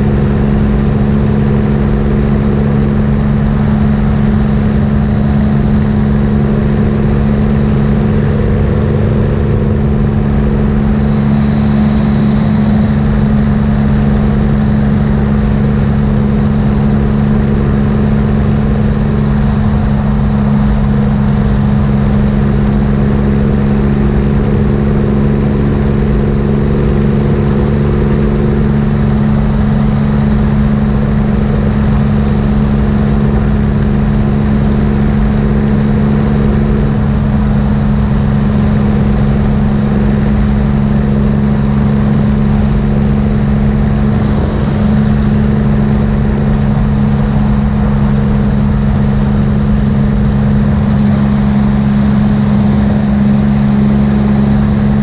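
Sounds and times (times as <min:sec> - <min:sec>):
motorcycle engine cruising: 0:00.0 - 0:55.0
wind rush over microphone: 0:00.0 - 0:55.0.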